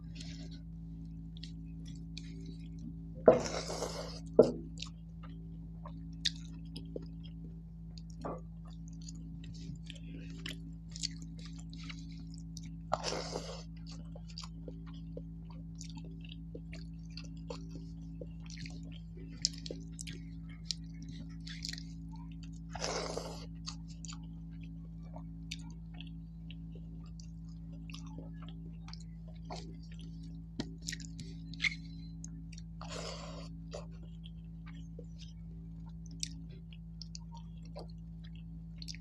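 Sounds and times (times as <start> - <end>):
chewing rice and fish: 0.0 - 39.0
low hum: 0.0 - 39.0.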